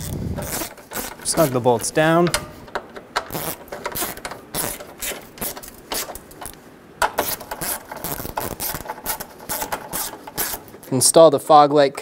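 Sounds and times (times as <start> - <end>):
hand ratchet clicking: 0.0 - 10.9.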